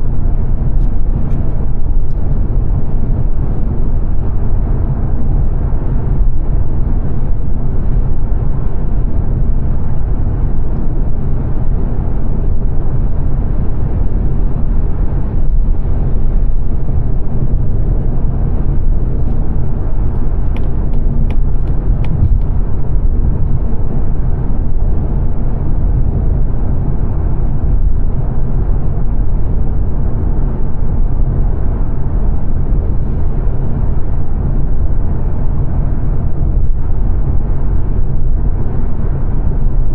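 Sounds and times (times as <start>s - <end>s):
road and engine noise in car cabin: 0.0s - 39.9s.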